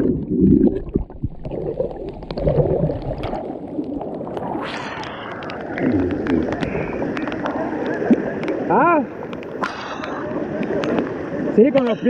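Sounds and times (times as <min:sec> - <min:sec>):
muffled underwater river rushing: 0:00.0 - 0:12.0
water splashing: 0:00.0 - 0:12.0.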